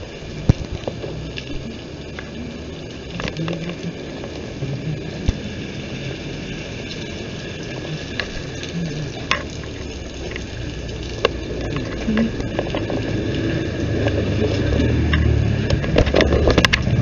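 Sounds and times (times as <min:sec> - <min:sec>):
rain hissing: 0:00.0 - 0:17.0.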